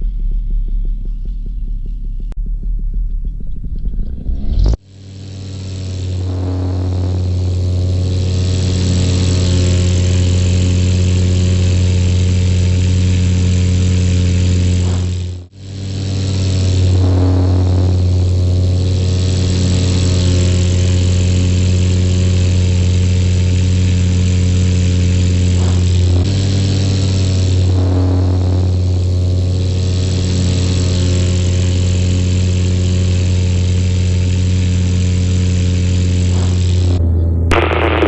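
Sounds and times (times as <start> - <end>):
engine droning: 0.0 - 38.0.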